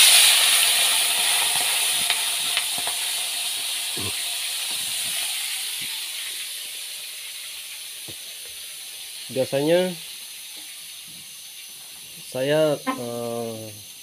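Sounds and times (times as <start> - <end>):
shrimp sizzling in hot oil: 0.0 - 14.0.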